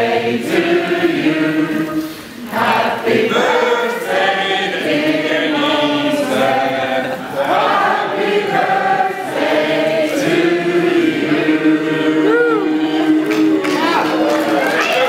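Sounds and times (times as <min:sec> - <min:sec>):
group singing: 0:00.0 - 0:14.6.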